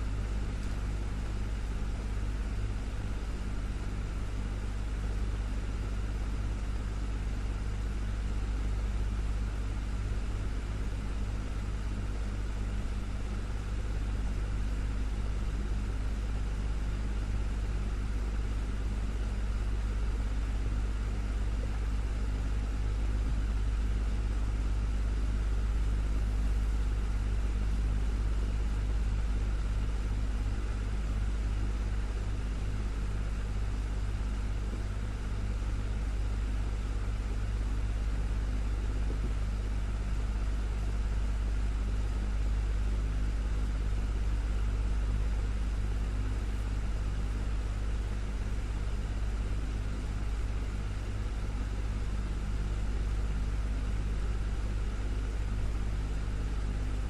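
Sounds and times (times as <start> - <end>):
desktop fan humming: 0.0 - 57.0.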